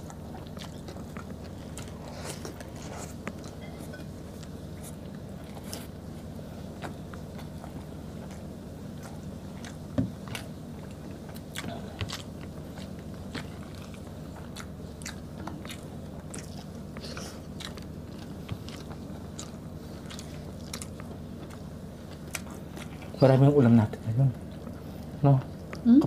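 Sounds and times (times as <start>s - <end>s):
chewing and wet mouth sounds: 0.0s - 23.4s.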